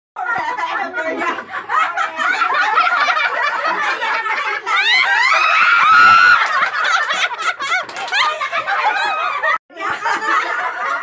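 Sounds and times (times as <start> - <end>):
group of people laughing: 0.2 - 11.0.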